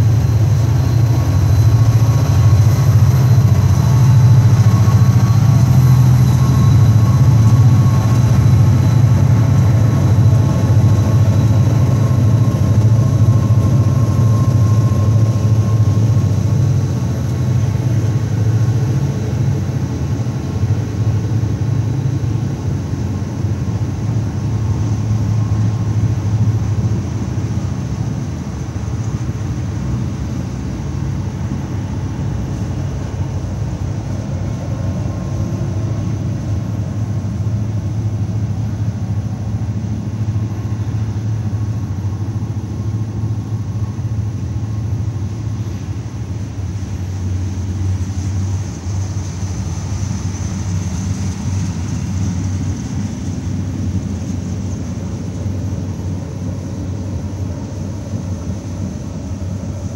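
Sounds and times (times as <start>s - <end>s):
diesel train rumbling: 0.0s - 59.9s.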